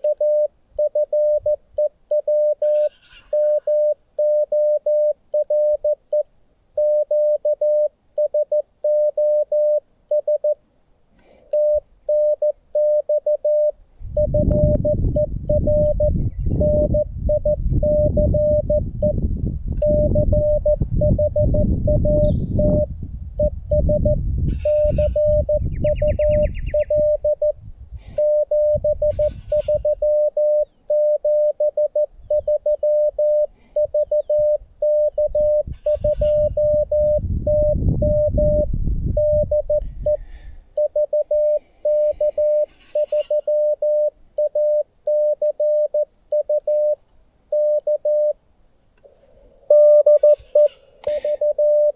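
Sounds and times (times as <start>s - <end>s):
morse code tone: 0.0s - 10.6s, 11.5s - 40.2s, 40.8s - 48.4s, 49.7s - 51.9s.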